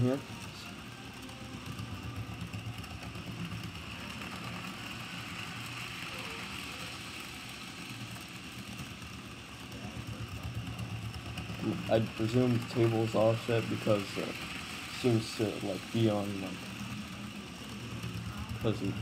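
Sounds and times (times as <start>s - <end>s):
model train motor whir: 0.0s - 19.0s
wheels on rails: 0.0s - 19.0s.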